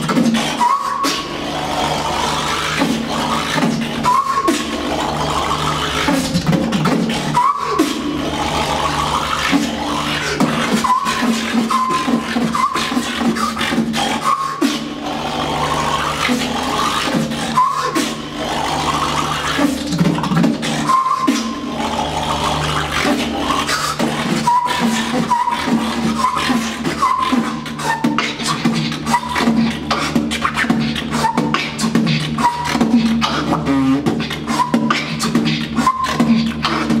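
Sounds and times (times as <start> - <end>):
beatboxing drum hits: 0.0 - 37.0
low buzzing bass: 0.0 - 37.0
scratch-like mouth sounds: 0.0 - 37.0.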